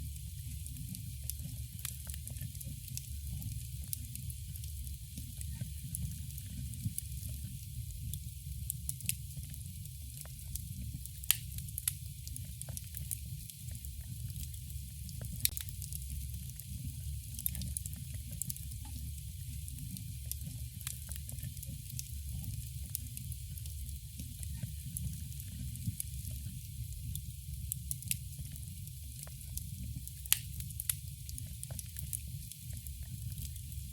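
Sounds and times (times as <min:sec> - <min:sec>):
campfire crackling: 0:00.1 - 0:33.9.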